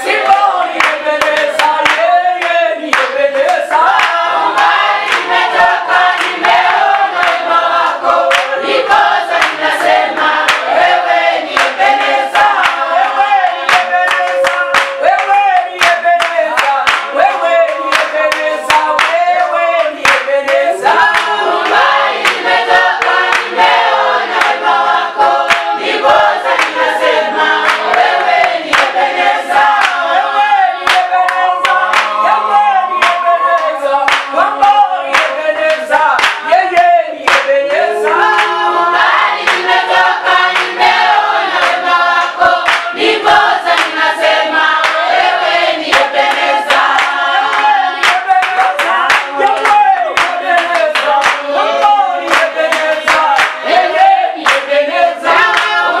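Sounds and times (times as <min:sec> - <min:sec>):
congregation singing worship song: 0:00.0 - 0:56.0
hand clapping: 0:00.0 - 0:56.0.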